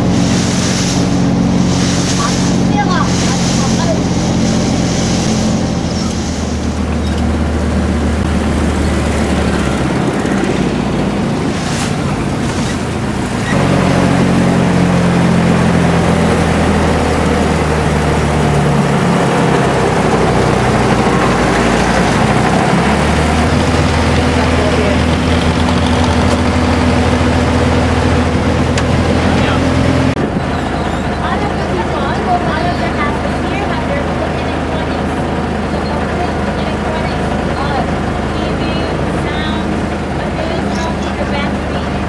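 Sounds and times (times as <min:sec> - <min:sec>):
wind noise: 0:00.0 - 0:36.6
motorboat engine running: 0:00.0 - 0:42.0
water noise: 0:00.0 - 0:42.0.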